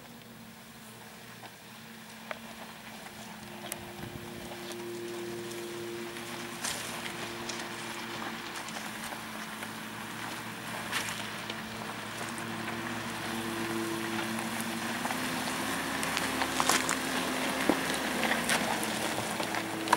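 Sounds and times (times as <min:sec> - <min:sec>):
off-road vehicle engine running: 0:00.0 - 0:19.9.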